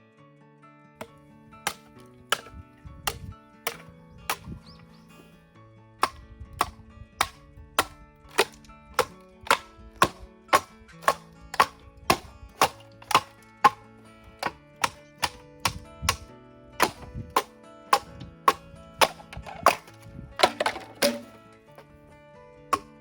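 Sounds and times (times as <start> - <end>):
background music: 0.0 - 23.0
blade chopping bamboo: 1.0 - 4.8, 6.0 - 21.8, 22.7 - 23.0.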